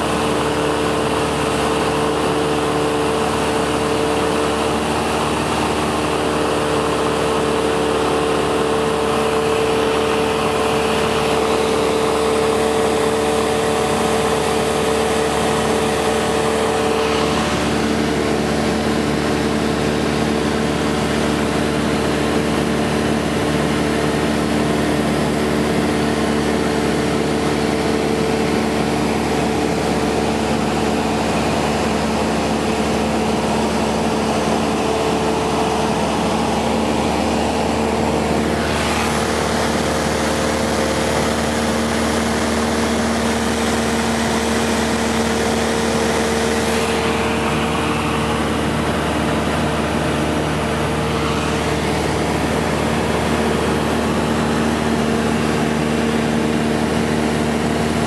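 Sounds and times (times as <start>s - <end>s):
aircraft engine and propeller droning: 0.0s - 58.0s.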